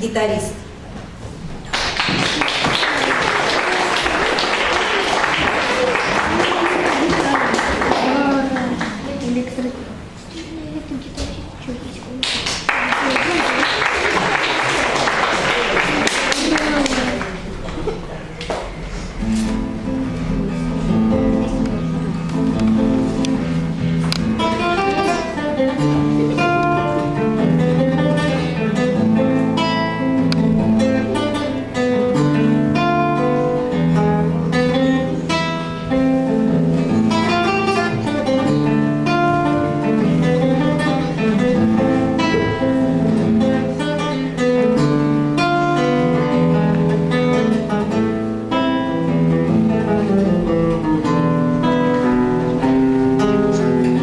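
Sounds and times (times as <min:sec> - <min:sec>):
acoustic guitar piece: 0:00.0 - 0:54.0.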